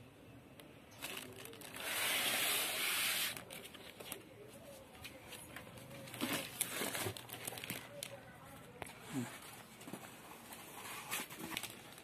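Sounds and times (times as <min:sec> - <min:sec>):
plastic and foam crinkling: 0:00.9 - 0:12.0.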